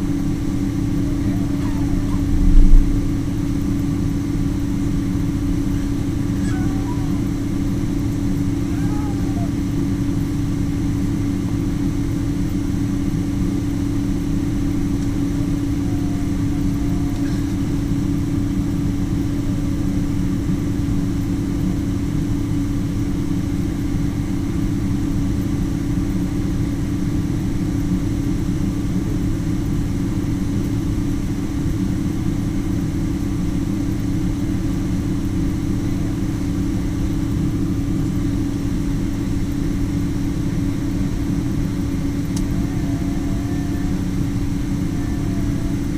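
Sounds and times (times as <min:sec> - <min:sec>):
jet engines droning: 0:00.0 - 0:45.9.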